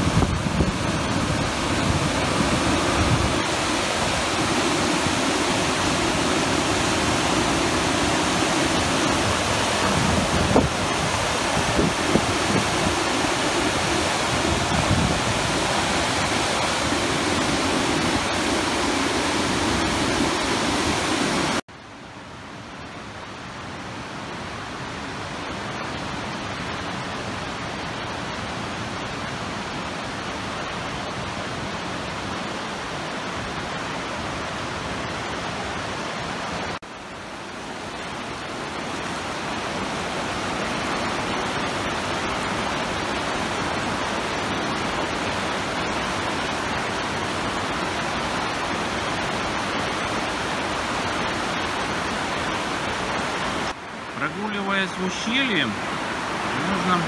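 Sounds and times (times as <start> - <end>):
river rushing over rapids: 0.0 - 57.0.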